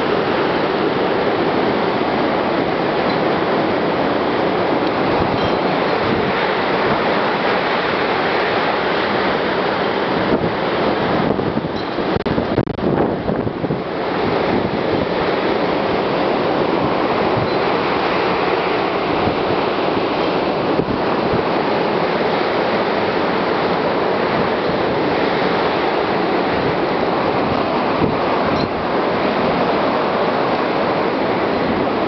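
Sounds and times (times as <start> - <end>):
storm wind rushing through trees: 0.0 - 32.0.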